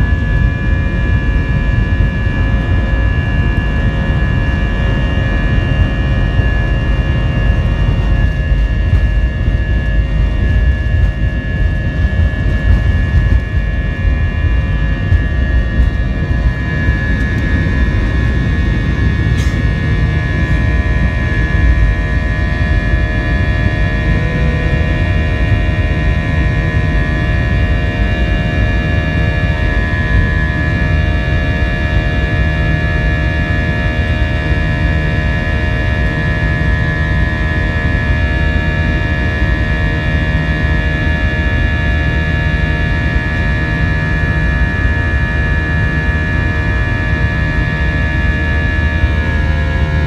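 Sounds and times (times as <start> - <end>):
jet engines at take-off: 0.0 - 50.0.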